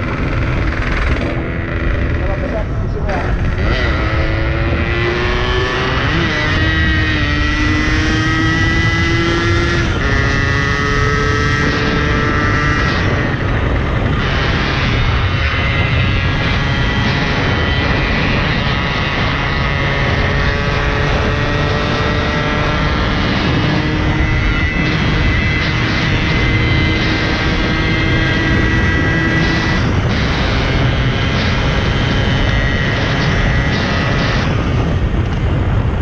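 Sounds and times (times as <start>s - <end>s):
two-stroke motorcycle engine running: 0.0s - 36.0s
wind rumble on microphone: 0.0s - 36.0s.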